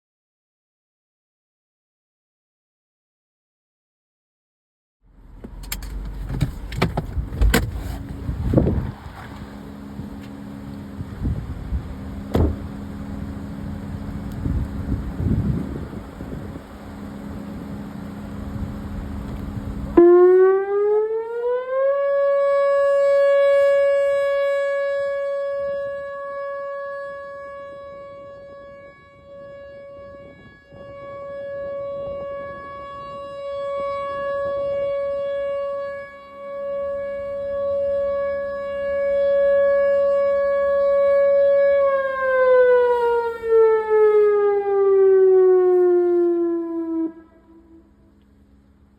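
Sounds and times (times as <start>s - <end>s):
outdoor warning siren wailing: 8.2s - 48.9s.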